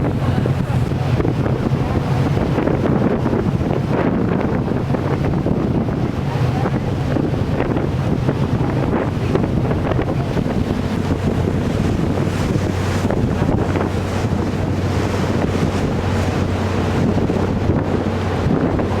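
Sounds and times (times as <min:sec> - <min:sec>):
ship engine drone: 0:00.0 - 0:19.0
water noise: 0:00.0 - 0:19.0
wind buffeting microphone: 0:00.0 - 0:19.0.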